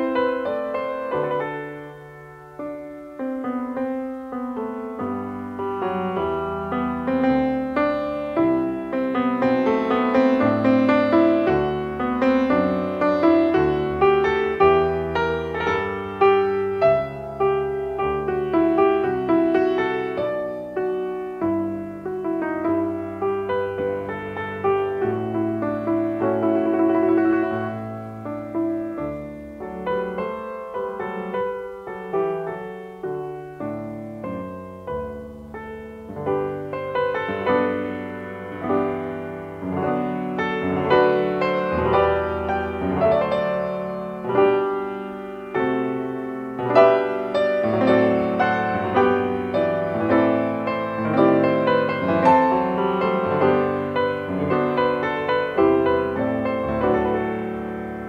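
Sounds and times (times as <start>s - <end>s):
solo piano chords: 0.0s - 58.0s.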